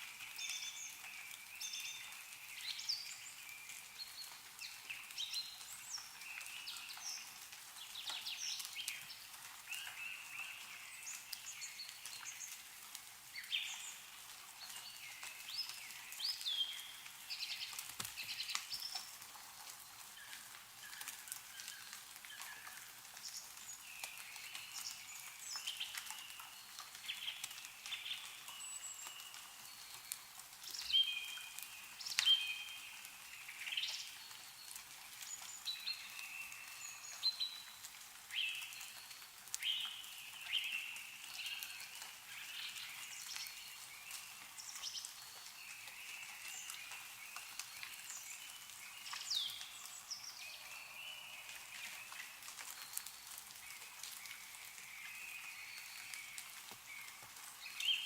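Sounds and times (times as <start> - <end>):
songbirds chirping: 0.0 - 58.0
water dripping from trees: 0.0 - 58.0.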